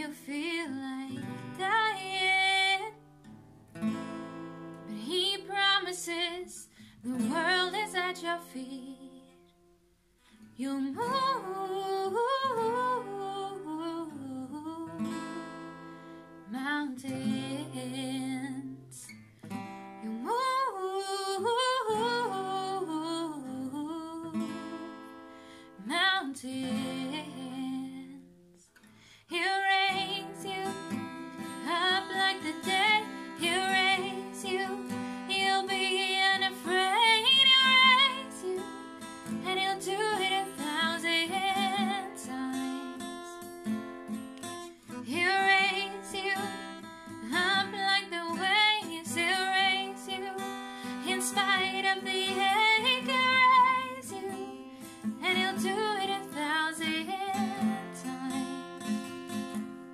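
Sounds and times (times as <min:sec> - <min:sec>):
woman singing: 0:00.0 - 0:03.0, 0:04.9 - 0:09.4, 0:10.5 - 0:19.2, 0:20.0 - 0:28.4, 0:29.2 - 0:43.8, 0:44.4 - 0:59.8
acoustic guitar: 0:00.0 - 0:59.9.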